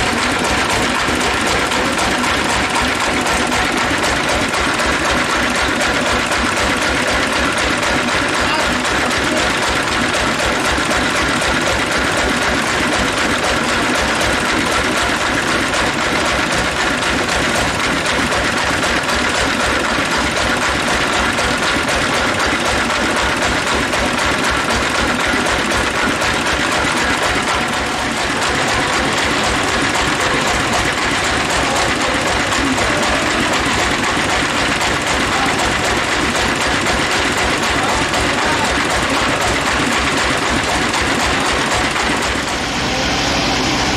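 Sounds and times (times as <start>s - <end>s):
band saw machinery running: 0.0s - 43.9s.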